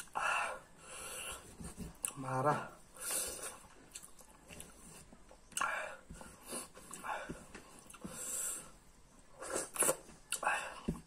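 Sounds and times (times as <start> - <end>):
man eating with mouth noises: 0.0 - 2.2, 3.0 - 8.7, 9.3 - 11.0.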